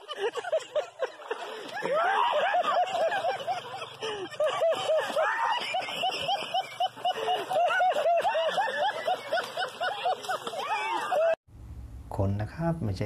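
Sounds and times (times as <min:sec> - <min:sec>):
person laughing hard: 0:00.0 - 0:11.4.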